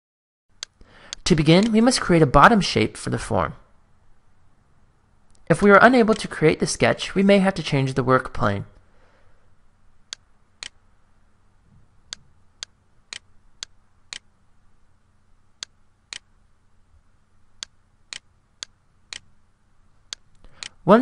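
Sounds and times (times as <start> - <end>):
faint room hiss: 0.5 - 21.0.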